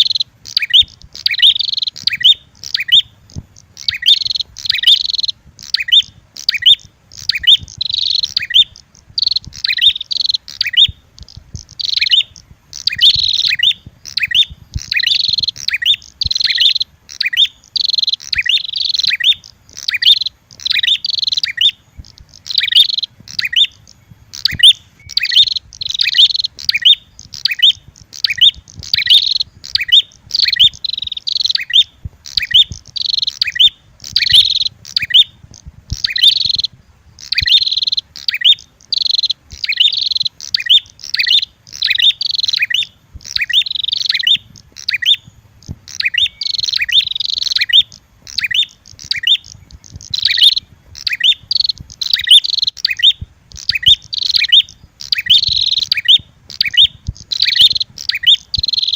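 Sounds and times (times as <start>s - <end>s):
prinia bird chirps: 0.0s - 58.9s.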